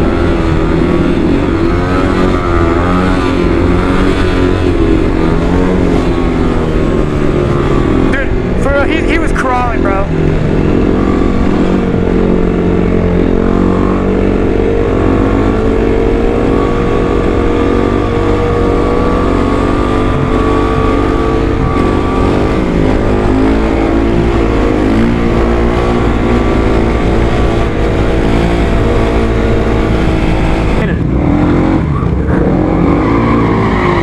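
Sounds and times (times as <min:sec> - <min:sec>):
motorcycle engine running: 0:00.0 - 0:33.3.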